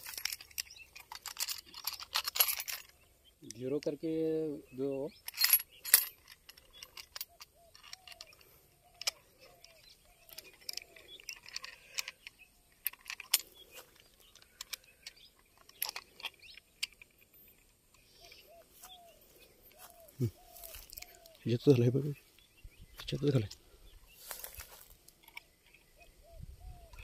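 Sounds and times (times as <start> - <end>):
bird calling: 0.0 - 27.0.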